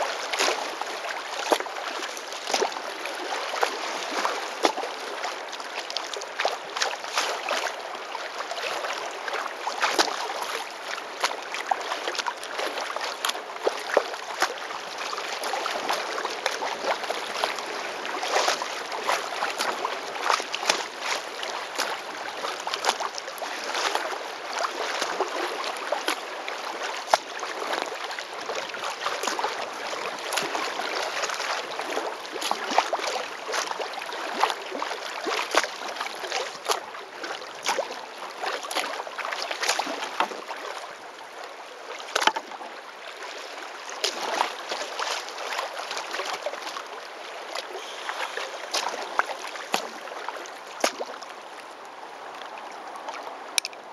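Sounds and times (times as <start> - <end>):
river water splashing against kayak: 0.0 - 53.9.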